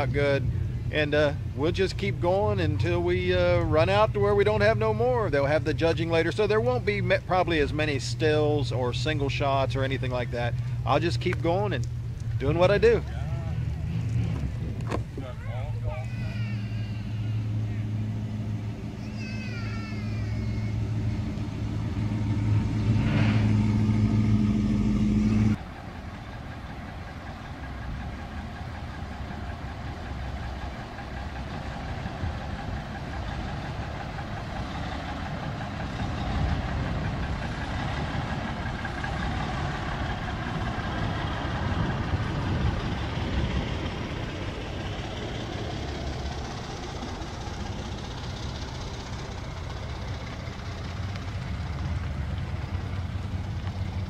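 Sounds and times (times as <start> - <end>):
car engine rumbling: 0.0 - 54.0
vehicles driving by: 0.0 - 54.0.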